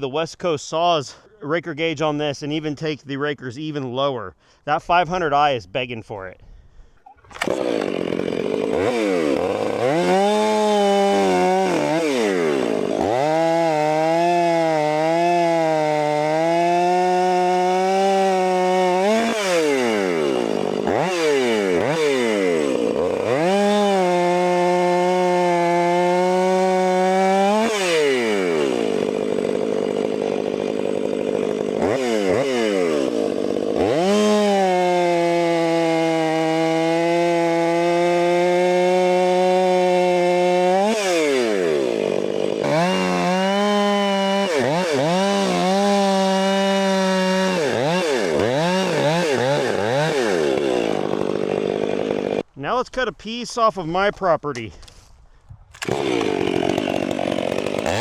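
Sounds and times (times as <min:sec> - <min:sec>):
chainsaw cutting log: 0:06.8 - 0:52.6, 0:54.6 - 0:58.0.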